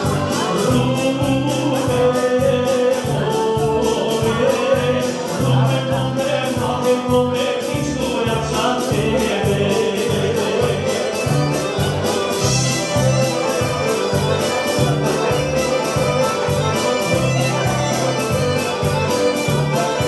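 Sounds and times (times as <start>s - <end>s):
folk dance music with singing: 0.0s - 20.0s
steady bass beat: 0.0s - 20.0s.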